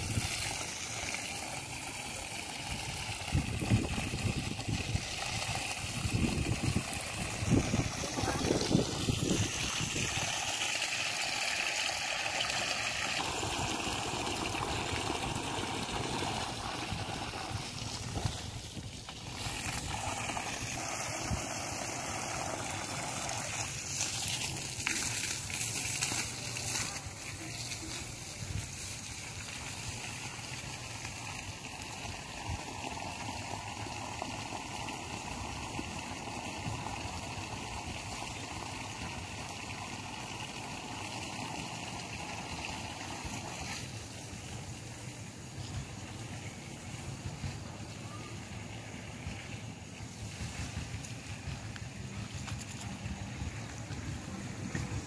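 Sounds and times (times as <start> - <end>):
hose water splashing on soil: 0.0 - 55.0.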